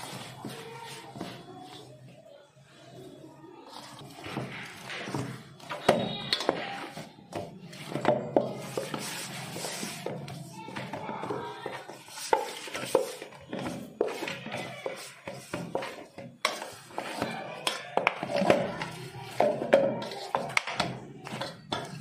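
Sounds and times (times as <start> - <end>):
scraping and rustling: 3.6 - 22.0
utensils and dishes knocking: 4.1 - 22.0.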